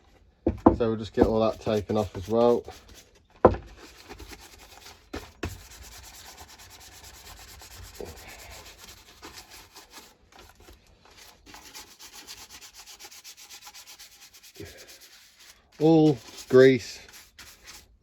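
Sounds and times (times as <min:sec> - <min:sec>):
scrubbing on plastic tank: 0:01.0 - 0:18.0.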